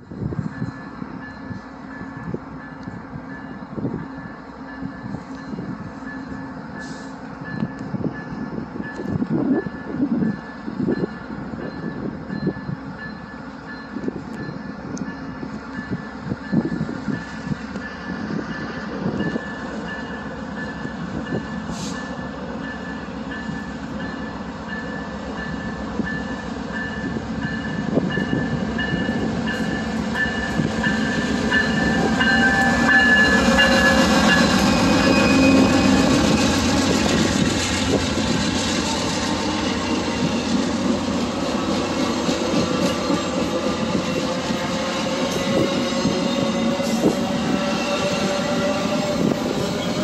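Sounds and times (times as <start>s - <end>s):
passenger train passing: 0.0s - 50.0s.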